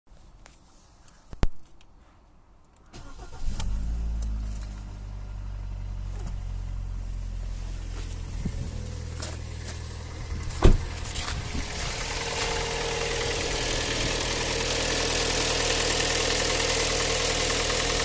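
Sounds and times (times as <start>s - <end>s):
car engine cranking: 3.0s - 18.0s
car engine idling: 3.0s - 18.0s.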